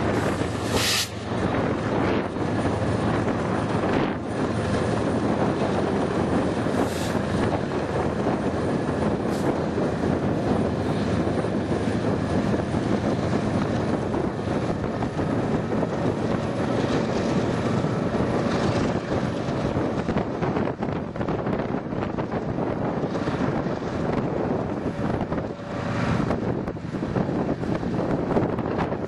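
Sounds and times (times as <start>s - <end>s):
diesel locomotives rumbling: 0.0s - 29.0s
train wheels on rails: 0.0s - 29.0s.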